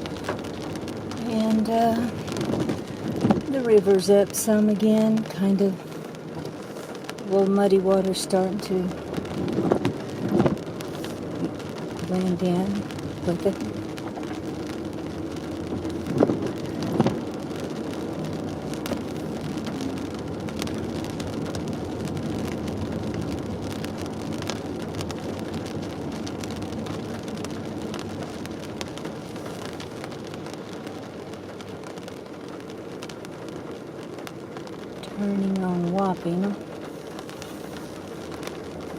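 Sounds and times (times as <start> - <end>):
raindrops ticking on car: 0.0 - 38.9
tyre hiss and road noise: 0.0 - 38.9.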